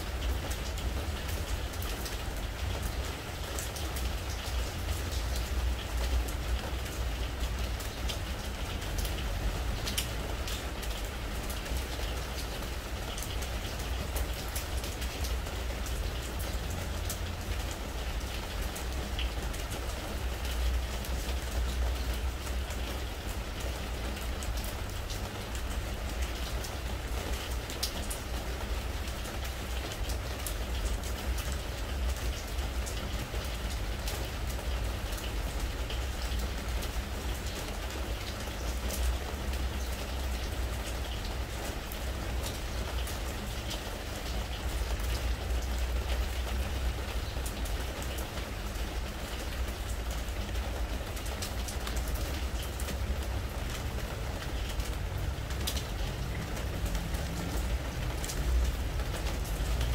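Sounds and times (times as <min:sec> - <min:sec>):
rain pattering on wooden deck: 0:00.0 - 0:59.9.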